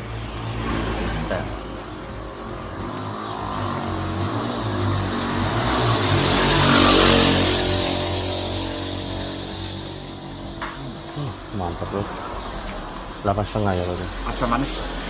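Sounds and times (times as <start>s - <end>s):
motor vehicle passing: 0.0s - 15.0s.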